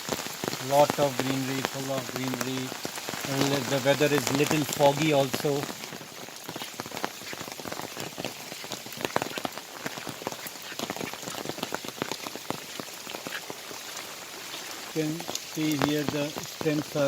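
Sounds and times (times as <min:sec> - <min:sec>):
heavy rain on foliage: 0:00.0 - 0:17.0
raindrops pattering: 0:00.0 - 0:17.0.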